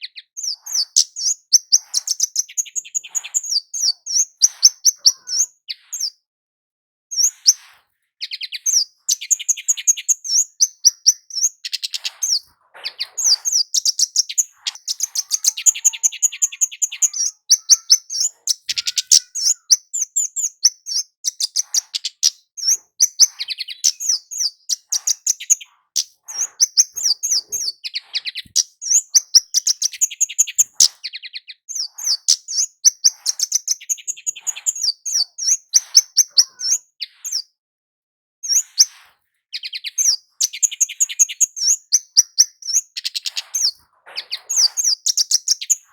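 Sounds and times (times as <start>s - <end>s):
flowerpecker calling: 0.0s - 6.1s, 8.2s - 37.4s, 39.6s - 45.9s.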